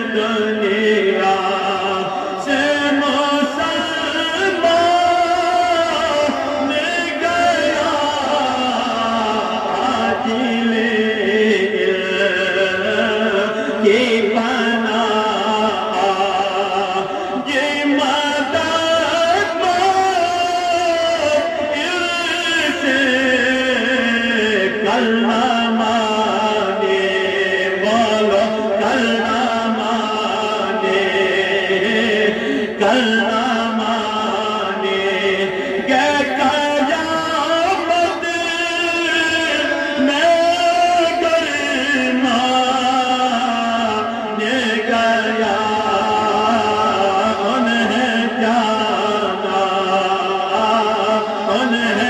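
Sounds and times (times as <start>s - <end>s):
person chanting melodic recitation: 0.0s - 52.0s.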